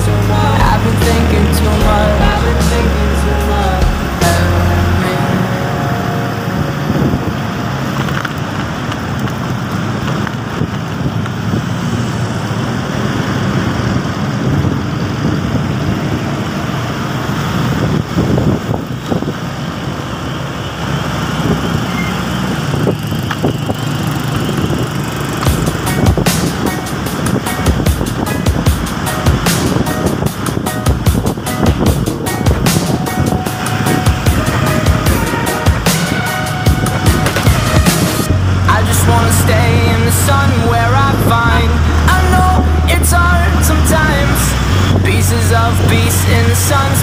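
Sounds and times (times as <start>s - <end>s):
motorcycle engine hum: 0.0s - 47.0s
wind and road noise: 0.0s - 47.0s.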